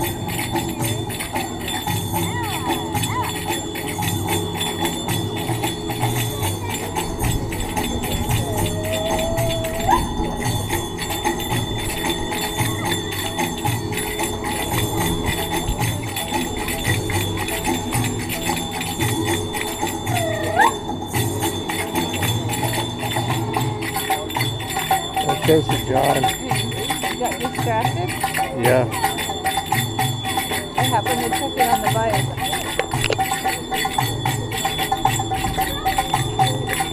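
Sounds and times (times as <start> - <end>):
belly dance music over loudspeaker: 0.0 - 36.9
bright metallic jingling: 0.0 - 36.9
steady drum beat: 0.0 - 36.9.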